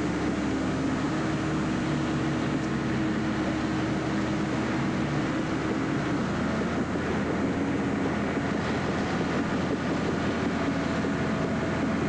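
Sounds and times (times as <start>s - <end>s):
large engine droning: 0.0s - 12.0s.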